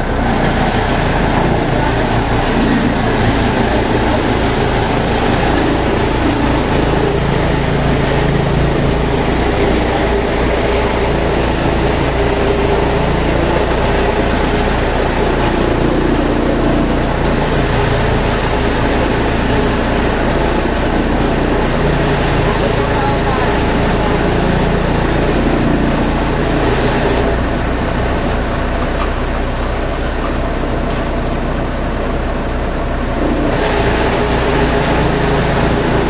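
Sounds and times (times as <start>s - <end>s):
tractor-driven chaff cutter running: 0.0s - 36.0s.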